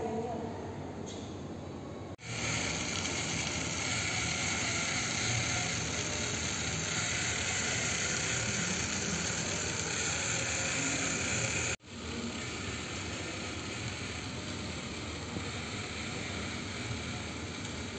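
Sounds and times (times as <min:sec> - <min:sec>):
toy motor and plastic gears: 0:02.2 - 0:17.9.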